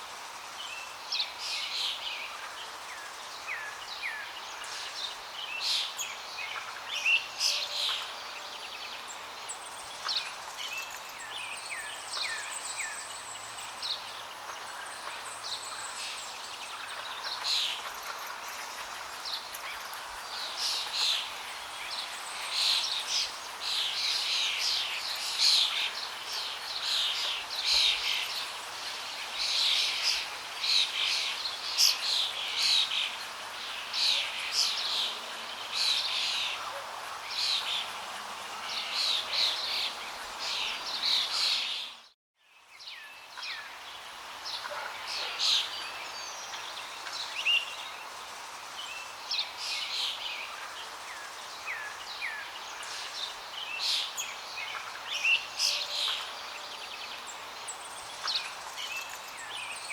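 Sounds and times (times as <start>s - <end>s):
songbirds chirping and trilling: 0.1s - 59.9s.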